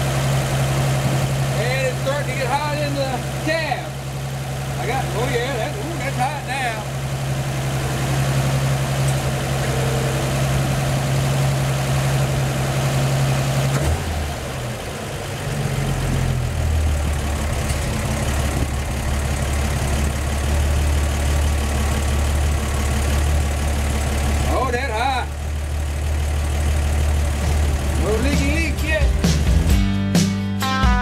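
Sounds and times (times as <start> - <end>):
truck engine idling: 0.0 - 30.1.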